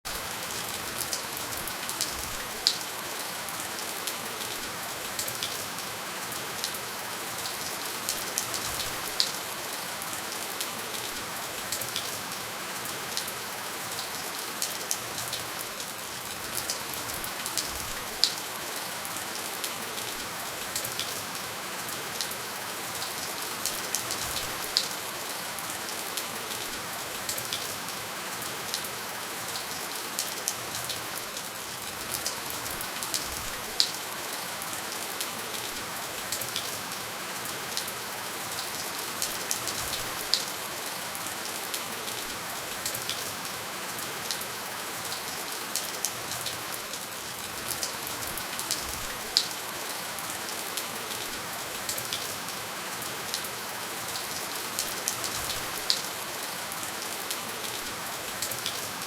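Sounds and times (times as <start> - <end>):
steady rainfall hiss: 0.1 - 59.0.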